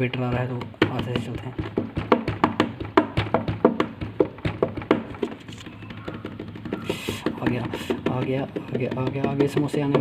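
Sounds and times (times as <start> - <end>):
hands drumming on wooden table: 0.0 - 10.0.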